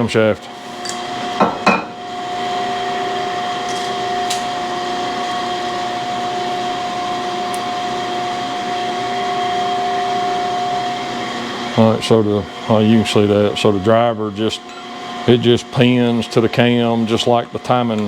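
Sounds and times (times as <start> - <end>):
shop machine whining: 0.0 - 18.0.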